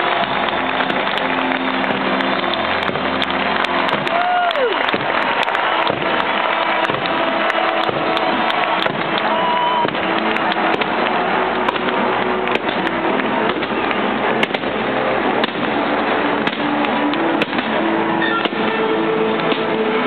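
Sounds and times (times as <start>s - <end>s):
fireworks crackling and popping: 0.0s - 20.0s
music playing: 0.0s - 20.0s.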